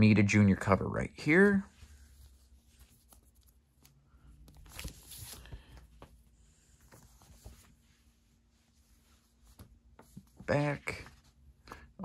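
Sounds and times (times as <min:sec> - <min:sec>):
comic book rustling and scraping: 0:01.3 - 0:11.5.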